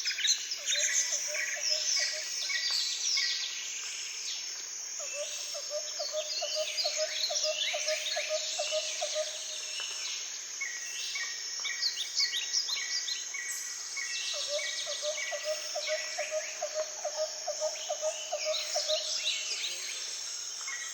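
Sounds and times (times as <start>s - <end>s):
insect hiss: 0.0s - 20.9s.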